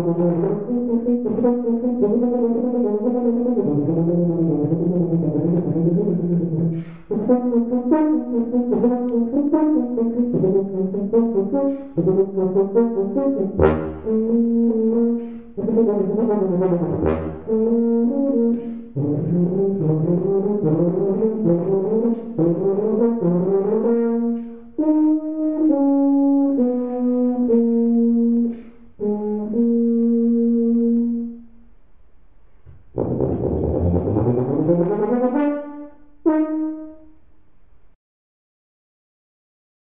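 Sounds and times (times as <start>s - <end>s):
solo tuba playing: 0.0s - 31.7s, 32.8s - 37.2s.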